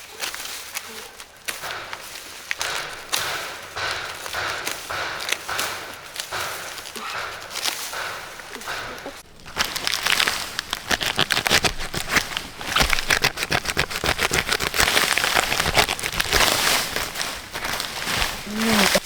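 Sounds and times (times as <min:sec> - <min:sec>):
dense rustling and crackling: 0:00.0 - 0:19.0.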